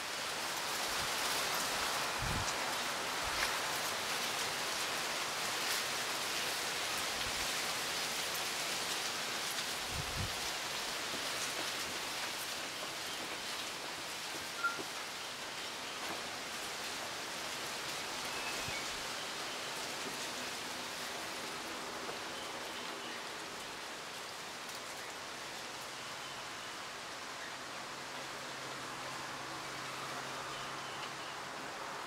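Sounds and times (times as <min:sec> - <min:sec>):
wind rustling leaves: 0:00.0 - 0:32.0.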